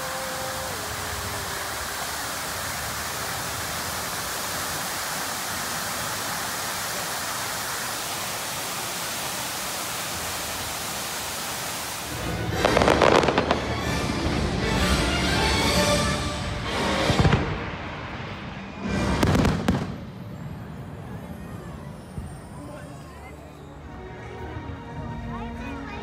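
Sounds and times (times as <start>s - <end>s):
fireworks banging and crackling: 0.0s - 15.4s, 16.6s - 23.0s
fountain water jets splashing: 0.0s - 23.9s.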